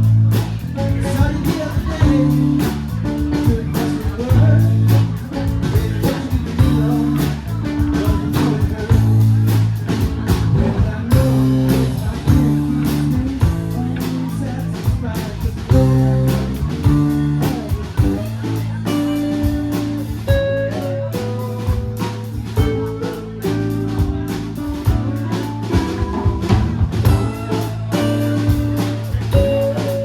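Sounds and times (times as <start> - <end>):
bass guitar: 0.0 - 30.0
drums keeping a steady beat: 0.0 - 30.0
electric guitar: 0.0 - 30.0
person singing: 0.0 - 30.0.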